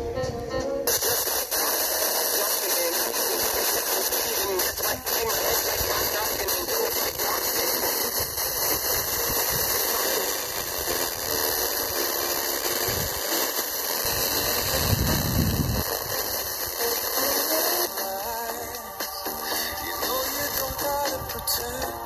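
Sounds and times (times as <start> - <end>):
faint distant radio station audio: 0.0 - 22.0
radio static hiss: 0.0 - 22.0.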